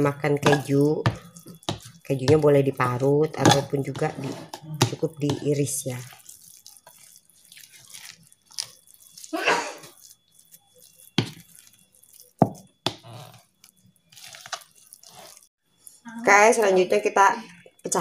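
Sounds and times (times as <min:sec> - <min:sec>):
wet squelching of mixture mixed: 0:00.0 - 0:16.7.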